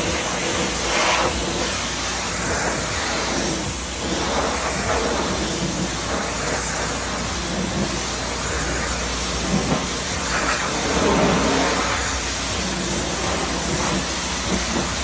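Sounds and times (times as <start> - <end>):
pressure washer spraying metal: 0.0 - 15.0.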